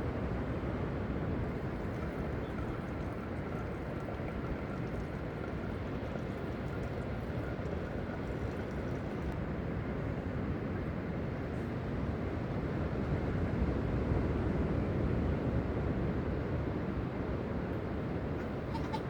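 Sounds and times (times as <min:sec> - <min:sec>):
wind: 0:00.0 - 0:19.0.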